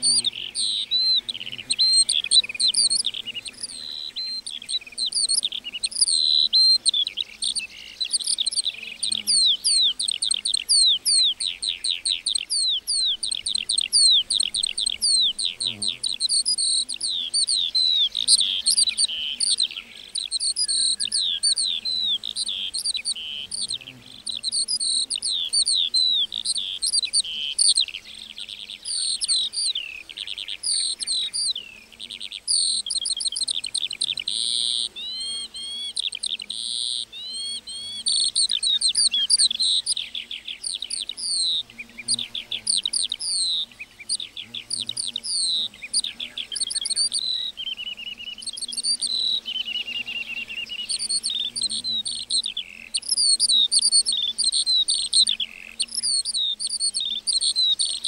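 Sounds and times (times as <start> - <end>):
lark singing: 0.0 - 58.0.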